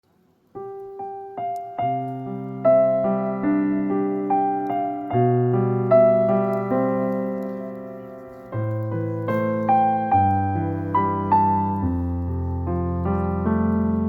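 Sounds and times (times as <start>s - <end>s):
gentle solo piano: 0.1s - 14.0s.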